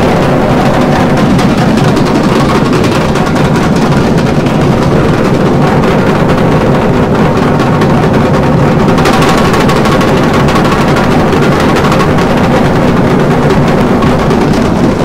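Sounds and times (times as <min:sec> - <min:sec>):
fast loud drumming: 0:00.0 - 0:15.0.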